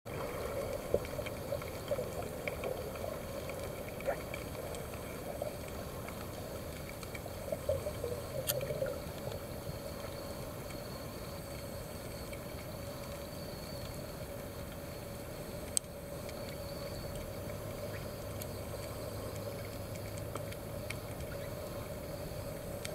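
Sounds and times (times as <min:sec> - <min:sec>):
faint clicks: 0:00.4 - 0:22.9.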